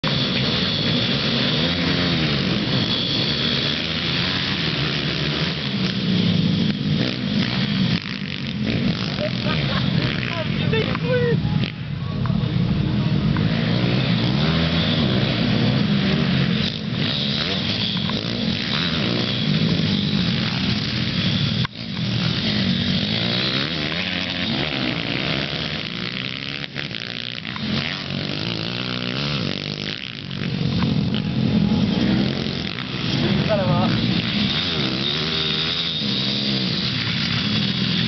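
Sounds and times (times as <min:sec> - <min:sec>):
small motorbike engine revving: 0:00.0 - 0:11.9, 0:12.5 - 0:38.0.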